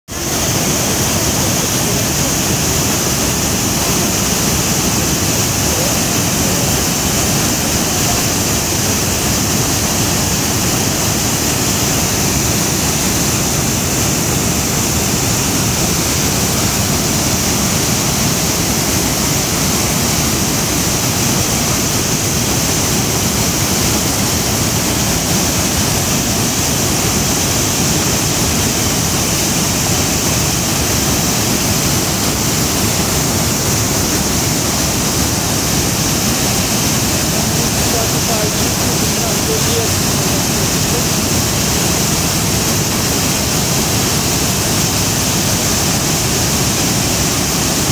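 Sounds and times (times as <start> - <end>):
waterfall rushing: 0.1 - 47.9.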